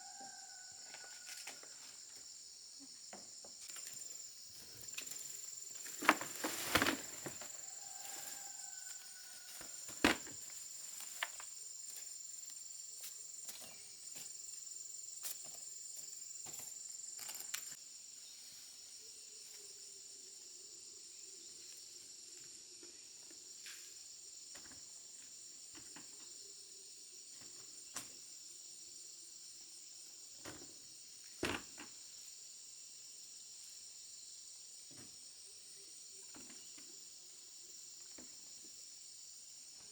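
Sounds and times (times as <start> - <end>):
crickets and insects chirring: 0.0 - 39.9.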